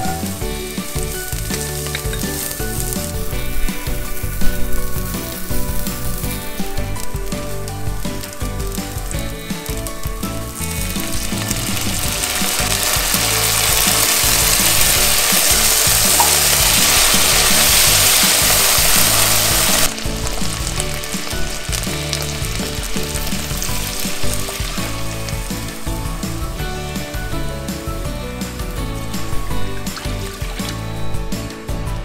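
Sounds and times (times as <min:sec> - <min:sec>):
fish sizzling in a pot: 0:00.0 - 0:31.8
background music: 0:00.0 - 0:32.0.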